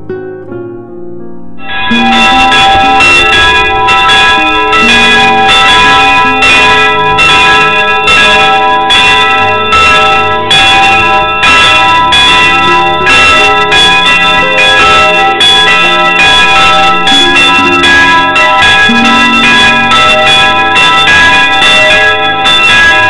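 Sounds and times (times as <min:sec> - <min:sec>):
church bells pealing: 0:01.6 - 0:23.0.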